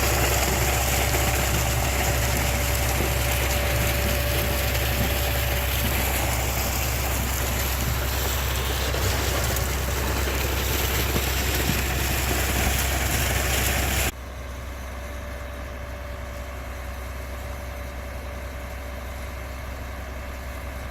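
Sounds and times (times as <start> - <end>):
truck engine humming: 0.0 - 18.5.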